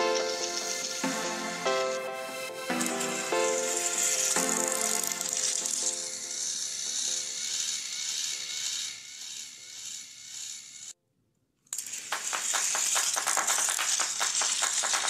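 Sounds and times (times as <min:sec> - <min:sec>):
toy train motors whirring: 0:00.0 - 0:01.2, 0:02.8 - 0:11.0, 0:11.7 - 0:15.0.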